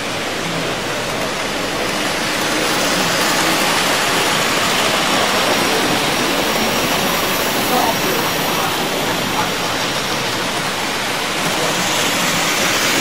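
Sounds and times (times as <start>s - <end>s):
exhibition hall crowd noise: 0.0s - 13.0s
model train running on track: 0.0s - 13.0s.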